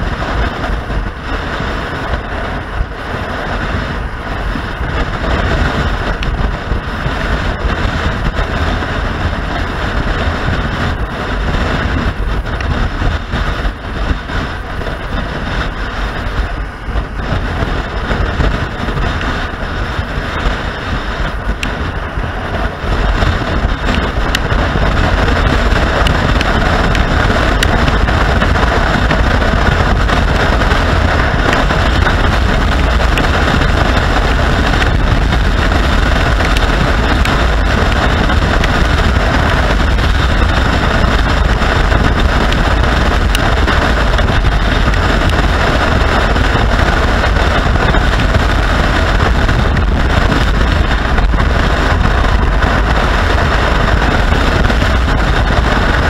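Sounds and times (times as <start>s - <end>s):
motorcycle engine: 0.0s - 56.0s
road noise: 0.0s - 56.0s
wind rushing over microphone: 0.0s - 56.0s.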